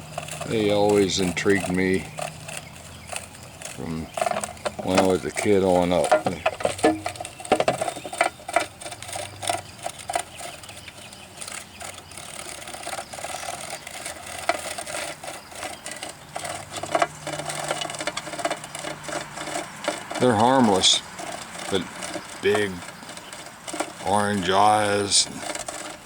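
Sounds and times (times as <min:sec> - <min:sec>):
cicadas clicking and rattling: 0:00.0 - 0:26.0.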